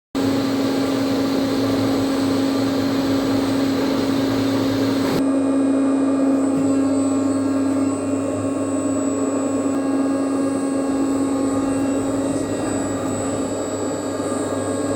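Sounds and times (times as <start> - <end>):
machine hum: 0.2 - 14.9.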